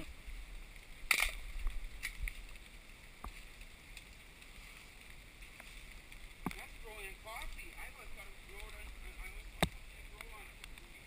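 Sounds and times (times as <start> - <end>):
faint ticks and rustles: 0.0 - 11.0.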